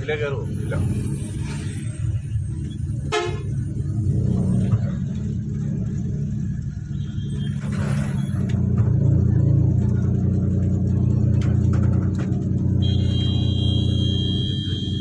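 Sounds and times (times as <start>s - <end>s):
lorry engine and road rumble: 0.0s - 15.0s.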